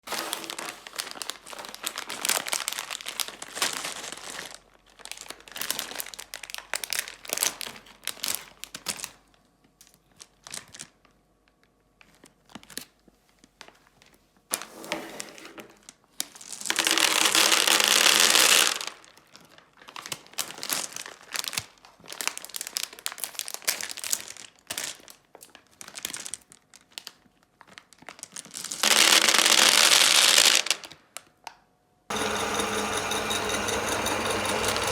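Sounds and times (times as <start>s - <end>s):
plastic packets crinkling: 0.1s - 14.1s, 16.2s - 31.1s.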